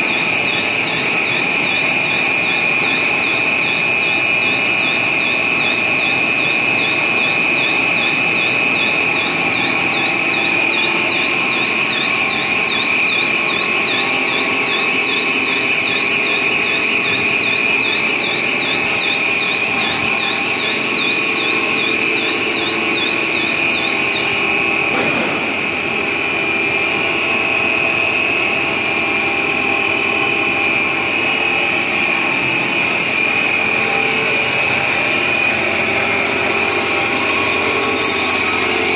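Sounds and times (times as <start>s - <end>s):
machine humming with high whine: 0.0s - 38.9s.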